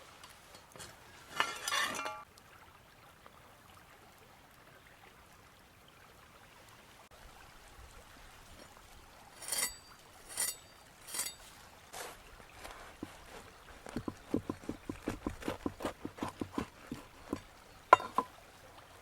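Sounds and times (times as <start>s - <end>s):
river water flowing: 2.3s - 19.0s.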